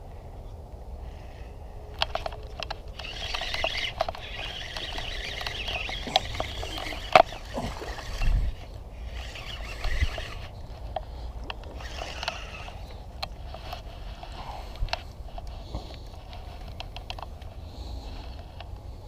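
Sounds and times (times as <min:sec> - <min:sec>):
fishing reel clicks and rustling: 0:01.3 - 0:19.0.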